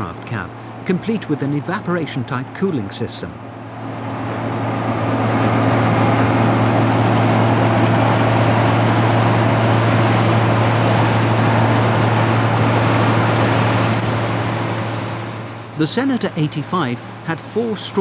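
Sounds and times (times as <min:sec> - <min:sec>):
combine harvester engine drone: 0:00.0 - 0:18.0.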